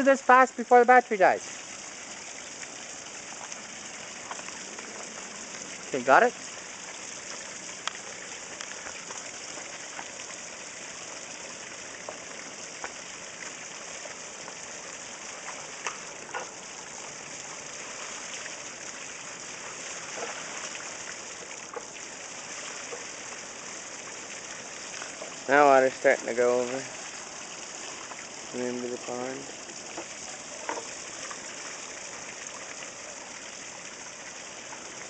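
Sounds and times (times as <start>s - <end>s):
pond water splashing and trickling: 0.0s - 35.0s
small water drips: 0.0s - 35.0s.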